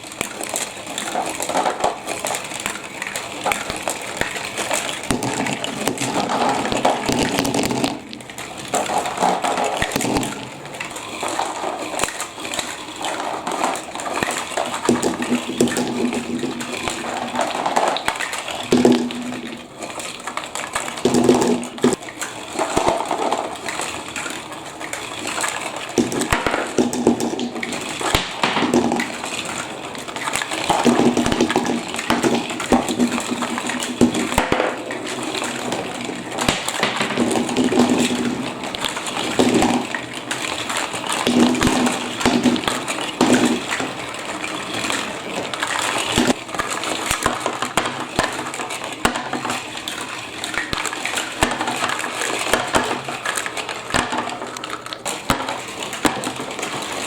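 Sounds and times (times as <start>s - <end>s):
marbles rolling and clacking: 0.0s - 57.0s
water running: 0.0s - 57.0s.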